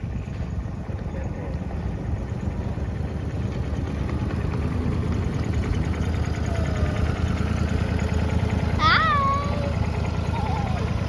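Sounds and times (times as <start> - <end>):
miniature train rumbling: 0.0 - 11.0.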